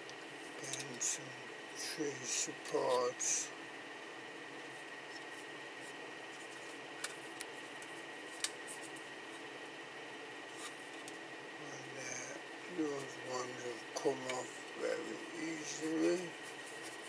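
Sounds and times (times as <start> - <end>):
steady hum with high whine: 0.0 - 17.0.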